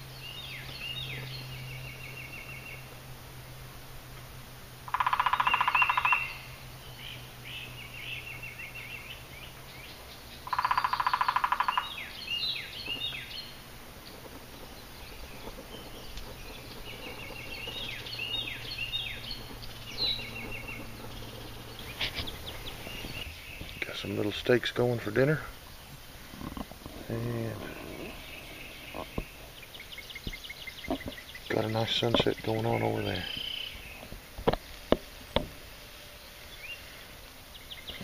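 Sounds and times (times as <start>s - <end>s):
songbirds chirping: 0.0s - 38.0s
woodpecker drumming: 4.2s - 35.7s.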